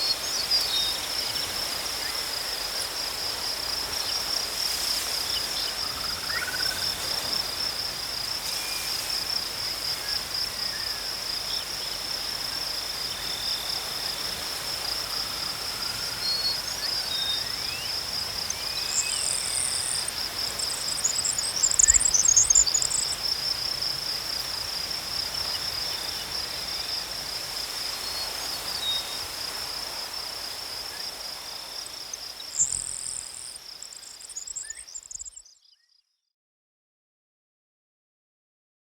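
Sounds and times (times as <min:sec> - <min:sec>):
insects trilling: 0:00.0 - 0:35.5.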